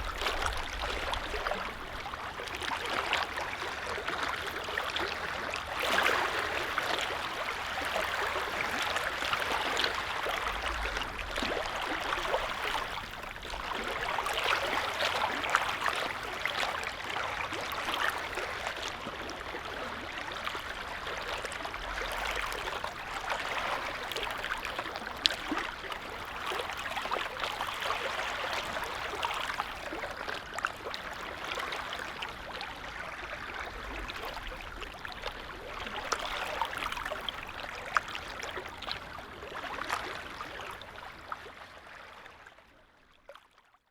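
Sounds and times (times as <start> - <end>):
small waves lapping: 0.0 - 43.6.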